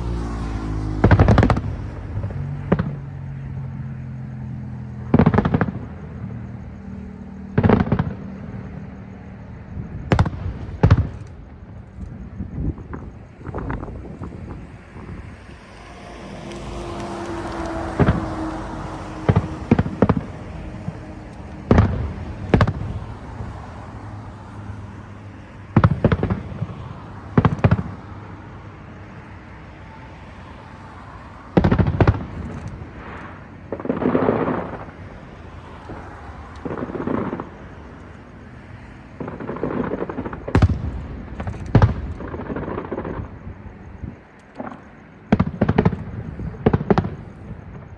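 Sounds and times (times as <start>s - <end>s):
fireworks booming: 0.6s - 24.7s, 25.5s - 30.4s, 31.2s - 47.9s
fireworks crackling: 1.0s - 3.2s, 5.0s - 24.7s, 25.7s - 29.8s, 30.8s - 47.9s.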